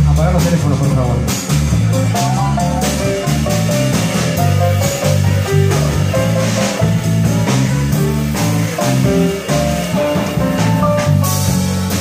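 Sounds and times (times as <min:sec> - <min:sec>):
drum kit: 0:00.0 - 0:12.0
electric bass guitar: 0:00.0 - 0:12.0
piano: 0:00.0 - 0:12.0
cymbal strikes: 0:01.4 - 0:12.0.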